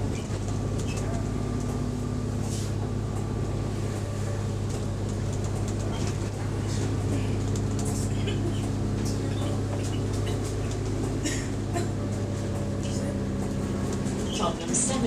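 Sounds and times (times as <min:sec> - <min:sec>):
bus clicks and rattles: 0:00.0 - 0:15.0
bus diesel engine running: 0:00.0 - 0:15.0.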